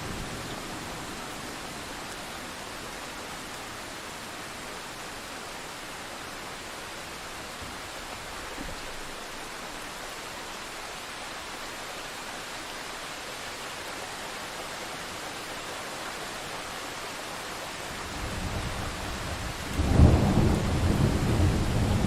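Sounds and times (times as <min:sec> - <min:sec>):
heavy rain hissing: 0:00.0 - 0:22.0.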